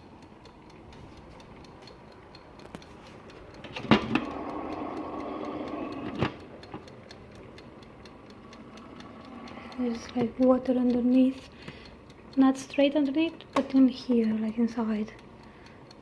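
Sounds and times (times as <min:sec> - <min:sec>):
faint regular ticking: 0:00.0 - 0:16.0
mechanical hum: 0:00.0 - 0:16.0.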